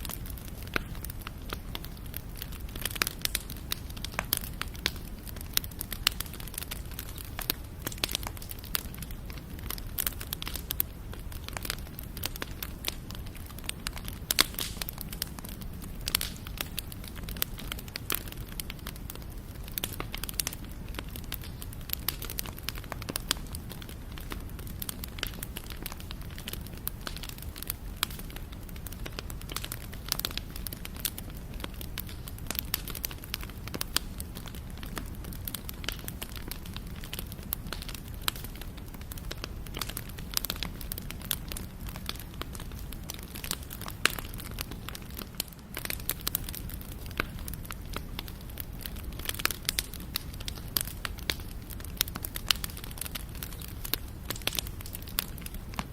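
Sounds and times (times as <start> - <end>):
burning wood popping: 0.0 - 55.9
wood fire crackling: 0.0 - 55.9.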